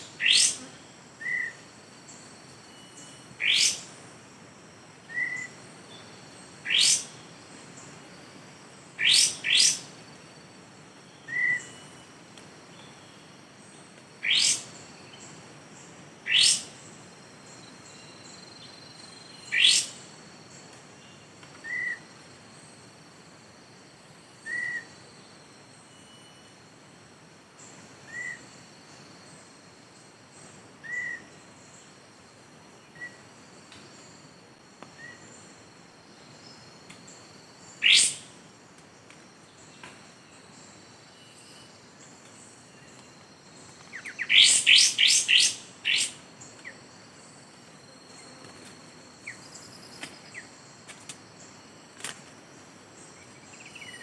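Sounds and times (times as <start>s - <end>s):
insect buzz: 0.0s - 54.0s
songbird chirps: 0.0s - 54.0s.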